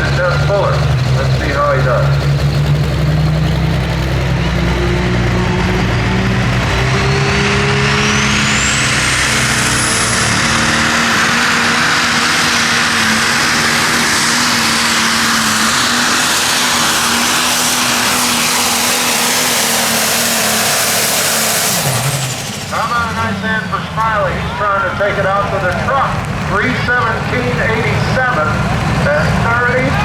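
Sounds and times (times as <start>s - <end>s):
high engine whine: 0.0s - 30.0s
tractor engine at full power: 0.0s - 30.0s.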